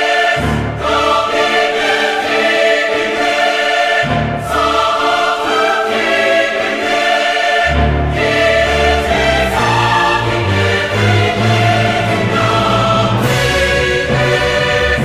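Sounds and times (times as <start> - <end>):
sustained choir-like chords: 0.0 - 15.0.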